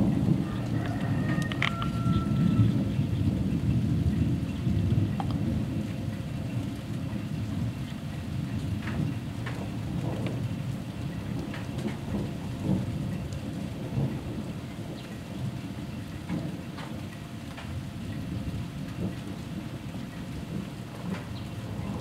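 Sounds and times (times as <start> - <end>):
steady rain: 0.0 - 22.0
thunder rumbling: 0.0 - 22.0
water drips ticking: 3.6 - 22.0.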